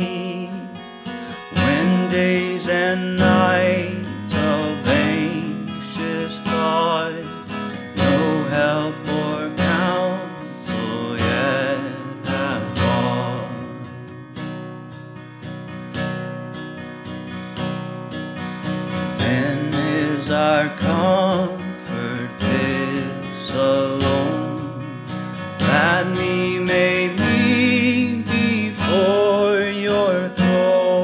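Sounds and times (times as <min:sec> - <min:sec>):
person singing: 0:00.0 - 0:14.2, 0:19.1 - 0:31.0
strummed acoustic guitar: 0:00.0 - 0:31.0.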